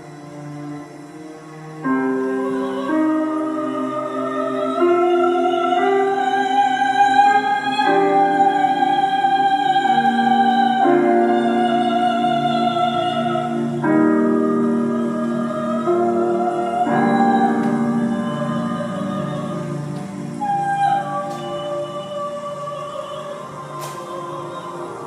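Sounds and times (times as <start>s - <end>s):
operatic soprano singing: 0.0s - 25.0s
sustained accompaniment chords: 0.0s - 25.0s.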